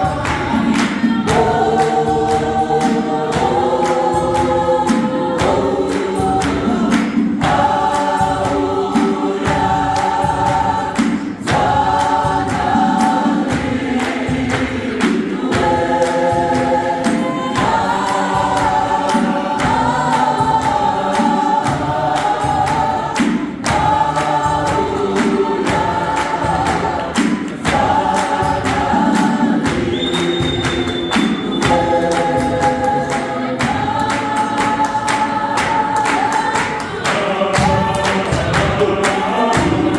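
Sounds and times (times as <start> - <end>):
gospel choir singing: 0.0 - 39.9
hand claps and taps: 0.0 - 39.9.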